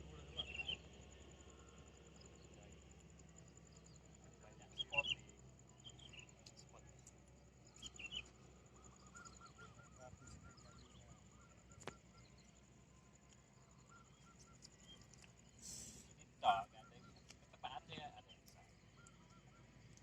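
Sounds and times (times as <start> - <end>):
distant bird calls: 0.0 - 20.0.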